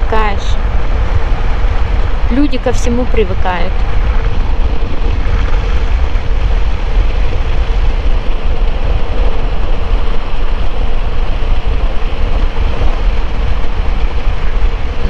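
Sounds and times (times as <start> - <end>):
wind rush on microphone: 0.0 - 15.0.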